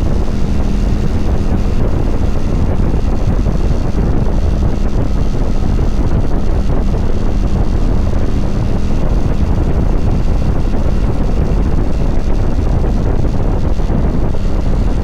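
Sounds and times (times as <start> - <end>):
motorcycle engine drone: 0.0 - 15.0
wind buffeting microphone: 0.0 - 15.0.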